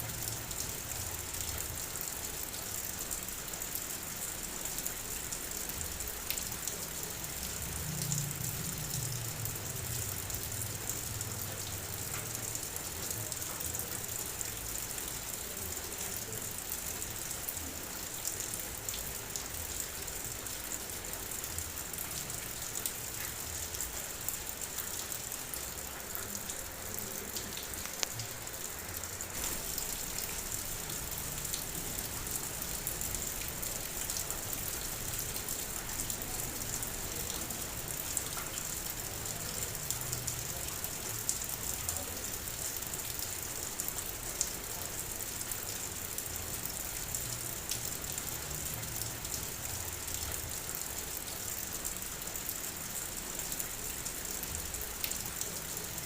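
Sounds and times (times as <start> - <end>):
raindrops ticking: 0.1 - 56.0
heavy rain hissing: 4.0 - 50.0.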